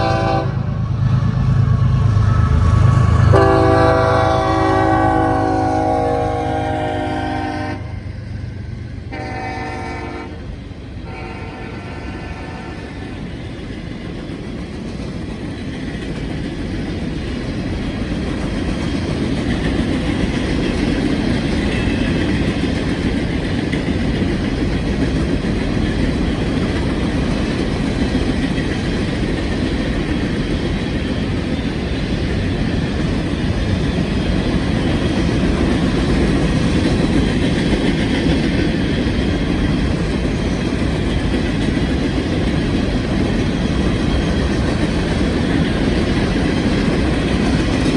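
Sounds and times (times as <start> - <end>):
train wheels on rail: 0.0 - 47.9.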